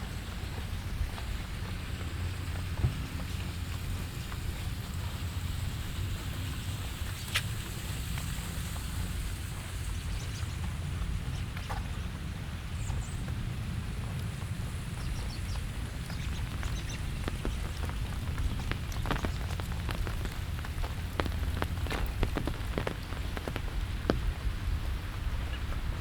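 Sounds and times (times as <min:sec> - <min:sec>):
rain drops striking surfaces: 0:00.0 - 0:26.0
steady low rumble: 0:00.0 - 0:26.0.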